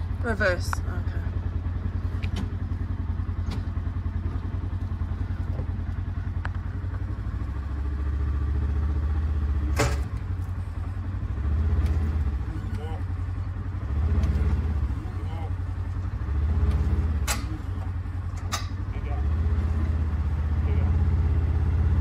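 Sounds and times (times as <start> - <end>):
farm vehicle engine running: 0.0 - 22.0.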